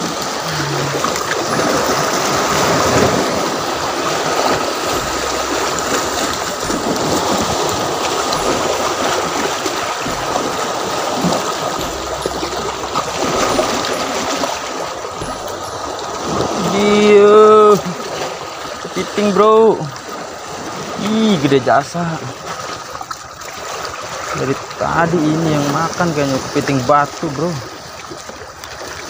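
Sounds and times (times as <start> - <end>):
small waves breaking on rocks: 0.0 - 29.0.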